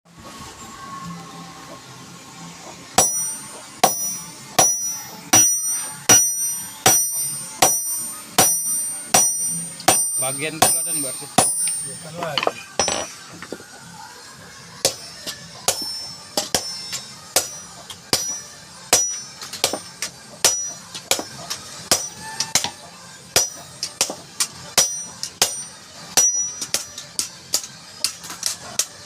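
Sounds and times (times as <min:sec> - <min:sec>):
hammer striking steel blade: 0:03.0 - 0:13.2, 0:14.8 - 0:22.8, 0:23.4 - 0:28.9.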